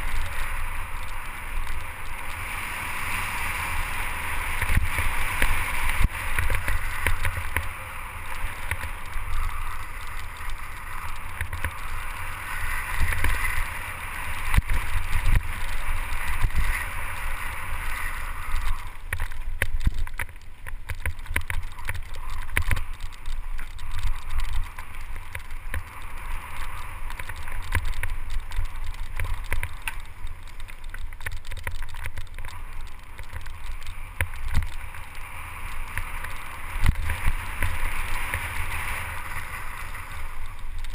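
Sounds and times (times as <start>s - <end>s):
bike rattling over rocks: 0.0s - 40.9s
tyre noise on dirt: 0.0s - 40.9s.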